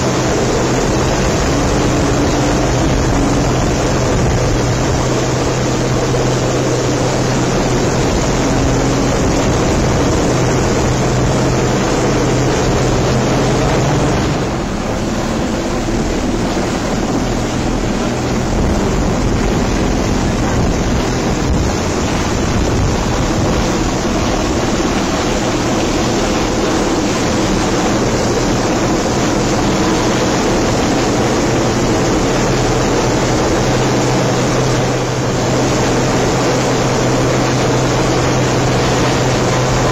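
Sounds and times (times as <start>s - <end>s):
helicopter hovering: 0.0s - 39.9s
low engine hum: 0.0s - 39.9s
water rushing past boat: 0.0s - 39.9s
wind buffeting microphone: 0.0s - 39.9s.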